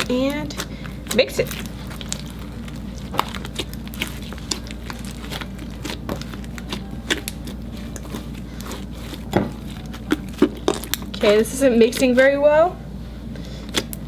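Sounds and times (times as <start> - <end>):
slime squelching: 0.0 - 14.0.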